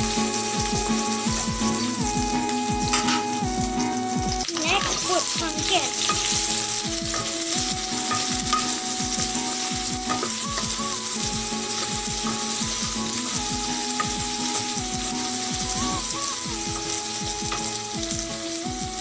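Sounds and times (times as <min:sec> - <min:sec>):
background music with held notes: 0:00.0 - 0:19.0
vegetables sizzling in oil: 0:00.0 - 0:19.0.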